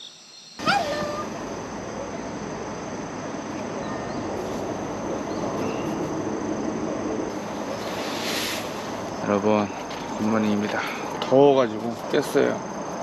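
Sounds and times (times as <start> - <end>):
electric fan airflow: 0.6 - 13.0.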